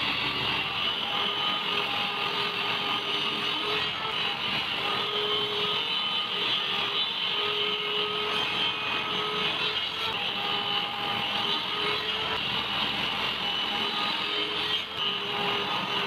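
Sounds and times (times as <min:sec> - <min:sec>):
electric power tool running: 0:00.0 - 0:16.0.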